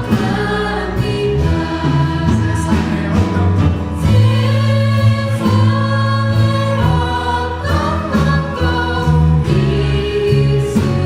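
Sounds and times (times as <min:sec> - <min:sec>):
bass and keyboard accompaniment: 0:00.0 - 0:11.0.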